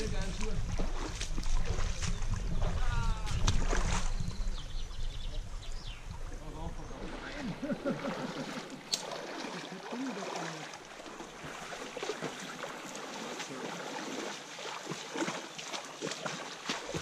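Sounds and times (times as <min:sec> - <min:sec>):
water sloshing around legs: 0:00.0 - 0:04.7, 0:06.2 - 0:17.0
stream running: 0:00.0 - 0:17.0.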